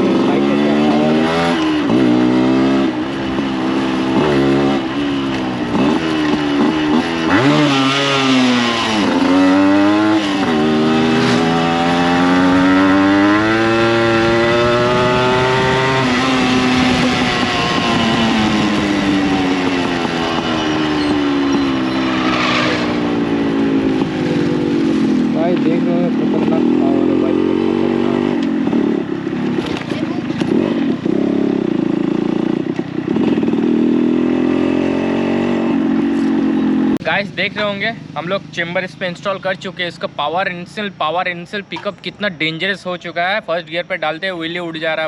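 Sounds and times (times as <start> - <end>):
two-stroke motorcycle engine revving: 0.0 - 39.1.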